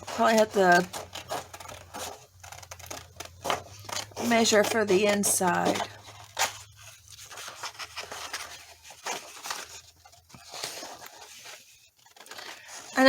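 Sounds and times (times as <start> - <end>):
scissors cutting paper: 0.0 - 13.0.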